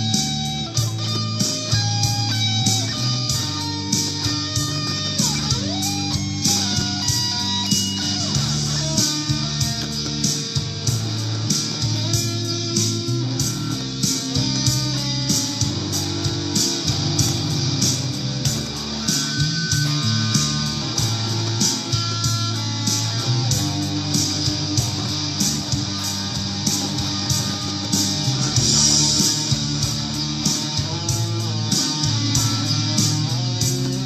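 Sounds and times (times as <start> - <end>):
bass: 0.0 - 34.0
drum beat: 0.0 - 34.0
electric guitar lead melody: 0.0 - 34.0.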